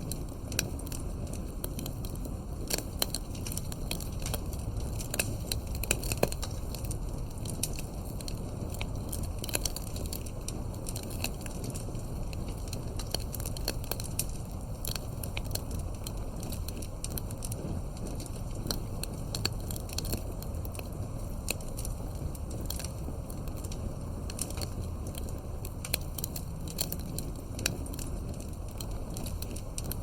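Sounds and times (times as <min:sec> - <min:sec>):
fireplace crackling: 0:00.0 - 0:30.0
low fire rumble: 0:00.0 - 0:30.0.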